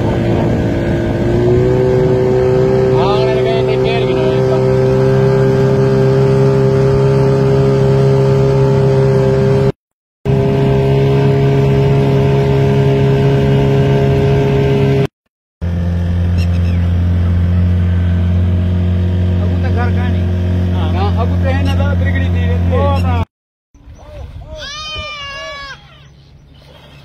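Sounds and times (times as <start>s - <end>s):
engine running steadily: 0.0s - 23.3s.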